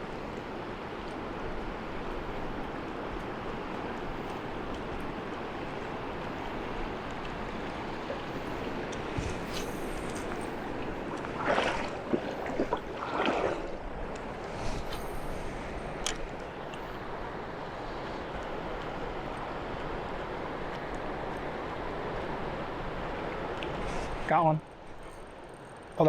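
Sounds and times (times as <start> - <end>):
river rushing: 0.0 - 24.4.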